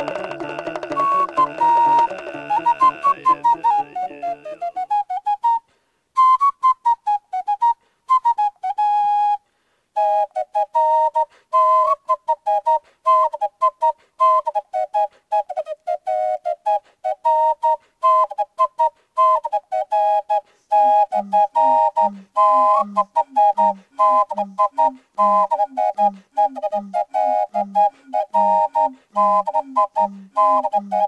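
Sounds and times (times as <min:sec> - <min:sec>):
flute-like whistling melody: 0:00.0 - 0:31.0.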